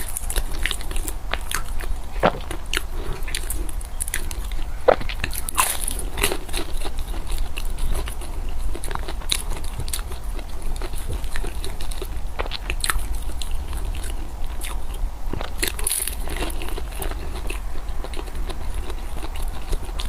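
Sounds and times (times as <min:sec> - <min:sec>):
chewing and biting food: 0:00.0 - 0:20.0
low steady hum: 0:00.0 - 0:20.0.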